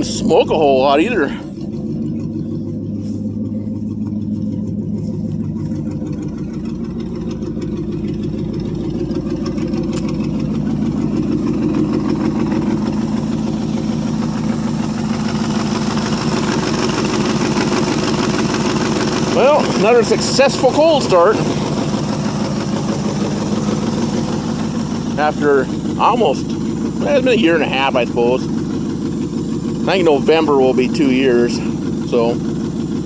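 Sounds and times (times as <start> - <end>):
pickup engine running: 0.0 - 33.0.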